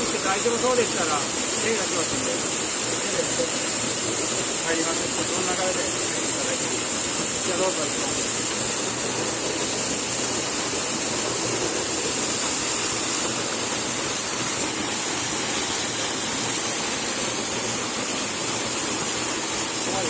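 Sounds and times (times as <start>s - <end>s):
waterfall pouring: 0.0s - 20.0s.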